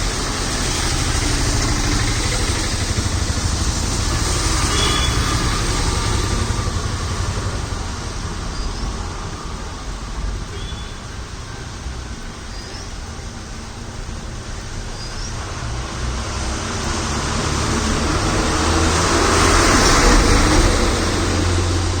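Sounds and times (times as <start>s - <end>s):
low engine rumble: 0.0s - 22.0s
tyres hissing on wet road: 0.0s - 22.0s.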